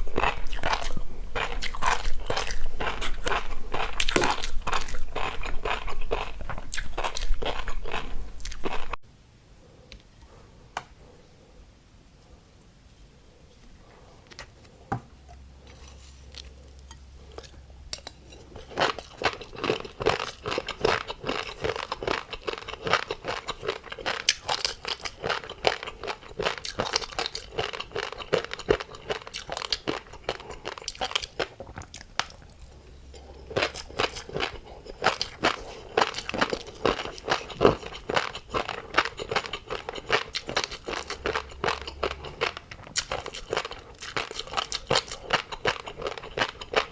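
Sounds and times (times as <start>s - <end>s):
crunchy chewing: 0.0s - 9.0s, 13.5s - 46.9s.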